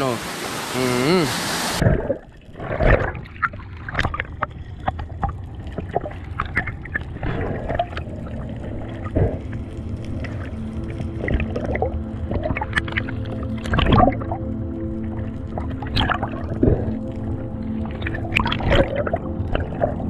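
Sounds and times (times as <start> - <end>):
muffled rumble of moving water: 0.0 - 20.0
bubbles crackling and clicking: 1.8 - 20.0.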